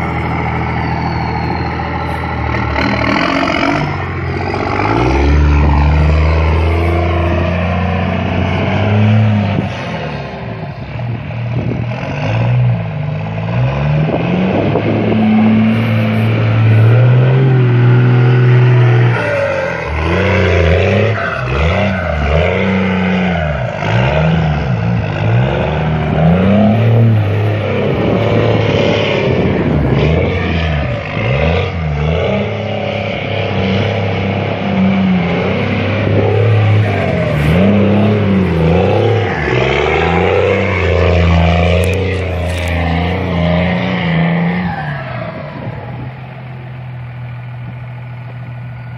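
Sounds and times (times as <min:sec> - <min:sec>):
diesel truck engine revving: 0:00.0 - 0:48.9.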